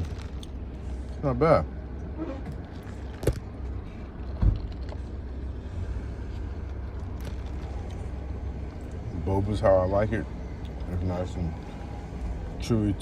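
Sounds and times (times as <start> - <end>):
car hum: 0.0 - 13.0.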